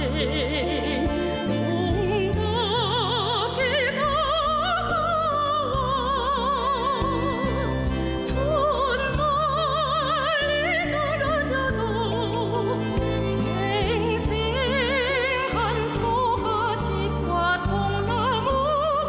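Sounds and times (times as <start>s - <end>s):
musical accompaniment with bass: 0.0s - 19.0s.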